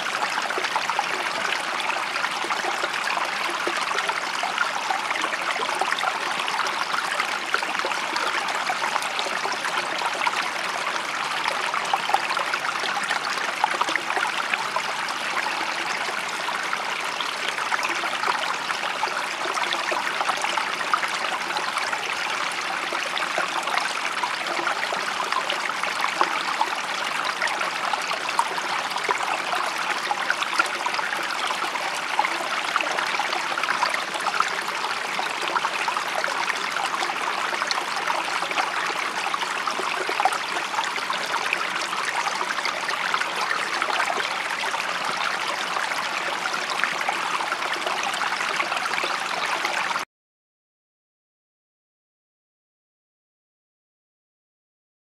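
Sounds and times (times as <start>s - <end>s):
water flowing steadily: 0.0s - 50.1s.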